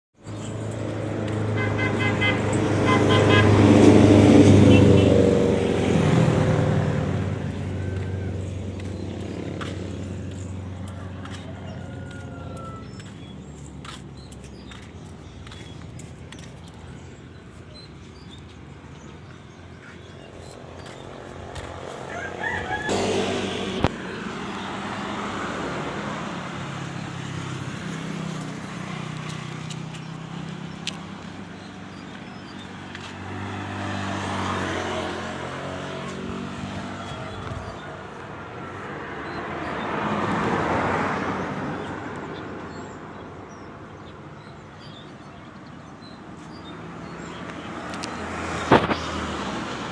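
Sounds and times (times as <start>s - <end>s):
vehicle engine passing by: 0.3s - 43.2s, 46.8s - 49.9s.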